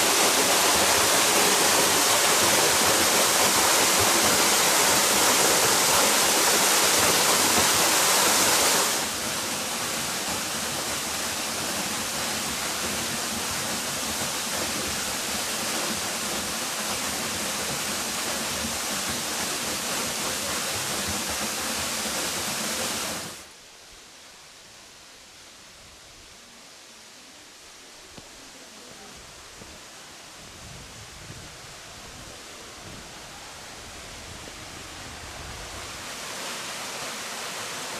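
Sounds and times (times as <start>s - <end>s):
waterfall rushing water: 0.0s - 37.9s.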